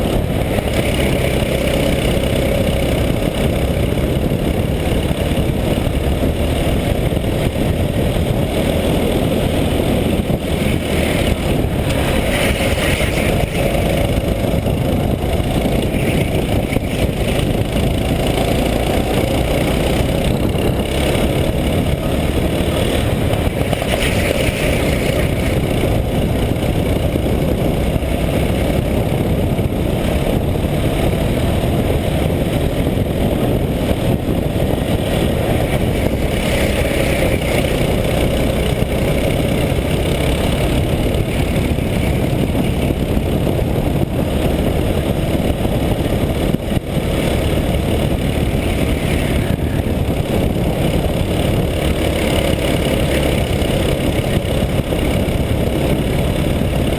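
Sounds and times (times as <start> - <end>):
kart engine running at speed: 0.0 - 56.9
rush of noise: 0.0 - 56.9.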